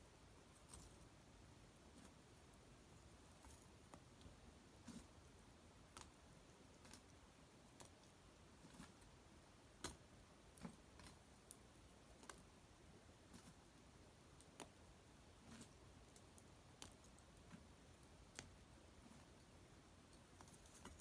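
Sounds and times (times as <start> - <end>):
small fire crackling: 0.2 - 21.0.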